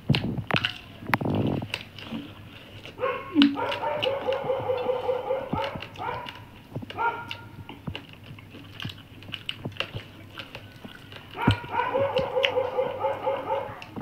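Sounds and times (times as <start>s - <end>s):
fingers and mouths clicking: 0.0s - 14.0s
animal calls: 0.6s - 14.0s.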